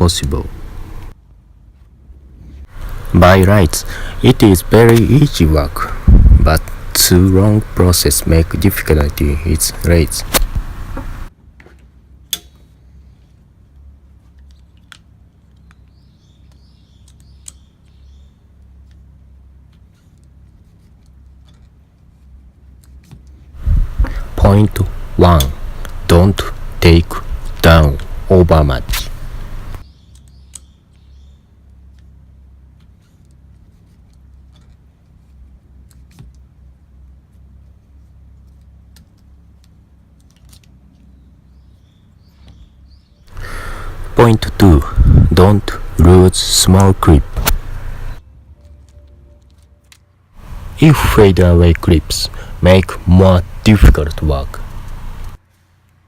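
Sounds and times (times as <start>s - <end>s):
low steady rumble: 0.0s - 16.2s, 17.8s - 30.0s, 30.8s - 42.2s, 42.8s - 56.0s
low steady hum: 0.0s - 56.0s.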